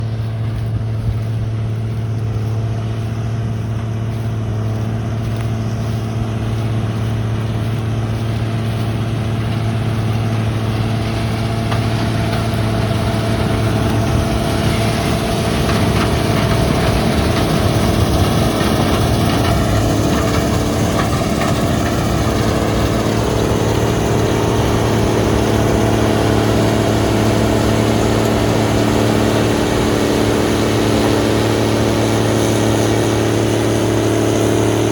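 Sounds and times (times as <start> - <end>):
harvest machinery engine running: 0.0 - 34.9.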